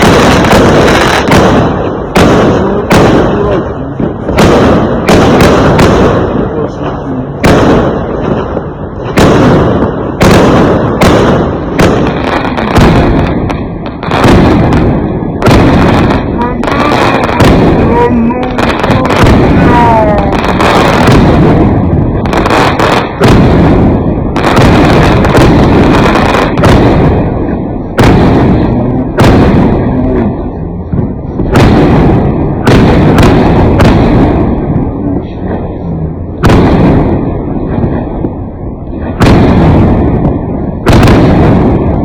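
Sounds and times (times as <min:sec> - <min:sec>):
fireworks bangs: 0:00.0 - 0:42.0
fireworks crackle and rumble: 0:00.0 - 0:42.0.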